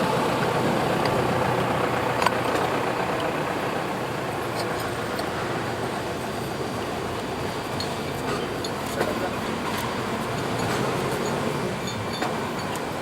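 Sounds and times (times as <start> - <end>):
drilling rig engine running: 0.0 - 13.0.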